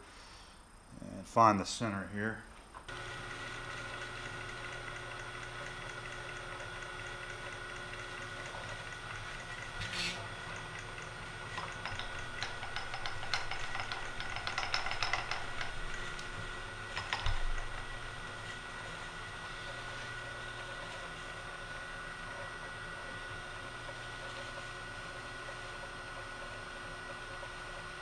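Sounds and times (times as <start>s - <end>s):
milling machine humming: 2.9s - 28.0s.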